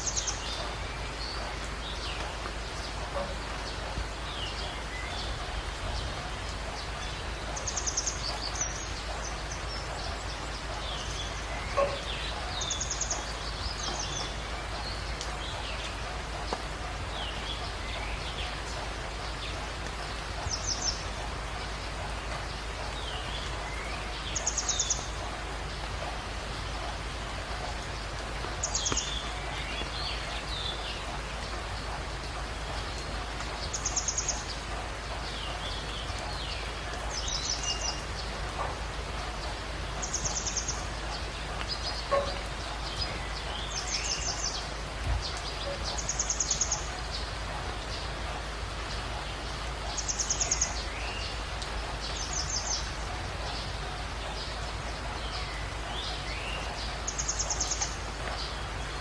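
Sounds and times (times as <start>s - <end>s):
birds chirping: 0.0s - 59.0s
steady background hiss: 0.0s - 59.0s.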